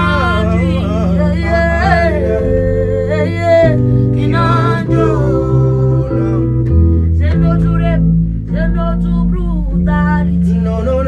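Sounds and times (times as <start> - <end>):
voices singing: 0.0 - 8.1, 8.7 - 11.0
backing beat: 0.0 - 11.0
held bass and chords: 0.0 - 11.0.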